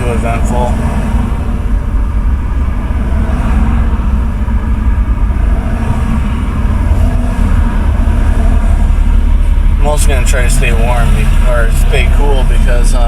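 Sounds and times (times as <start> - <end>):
pickup truck engine rumble: 0.0 - 13.0
road noise: 0.0 - 13.0.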